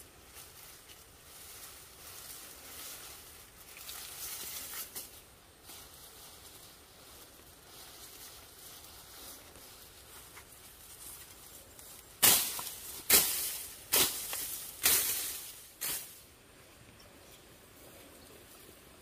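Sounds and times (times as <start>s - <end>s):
grass swishing: 0.0s - 16.4s.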